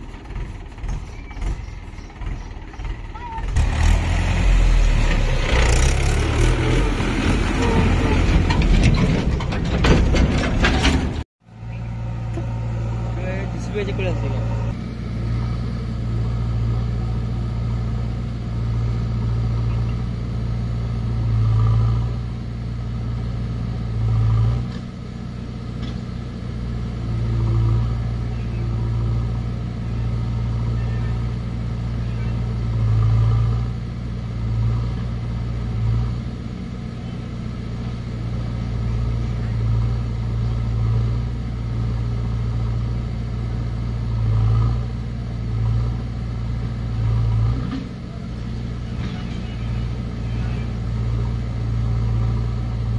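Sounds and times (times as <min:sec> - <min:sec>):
diesel engine revving: 0:00.0 - 0:52.9.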